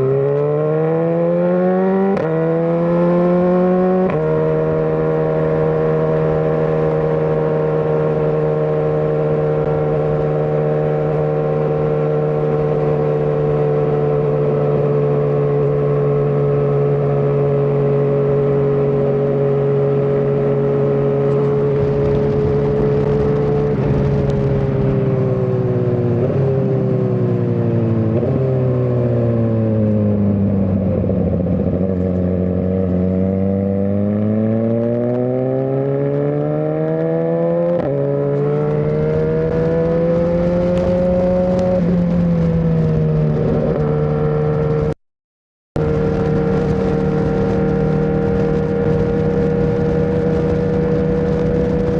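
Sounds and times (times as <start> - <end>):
motorcycle engine revving: 0.0 - 45.0, 45.8 - 51.9.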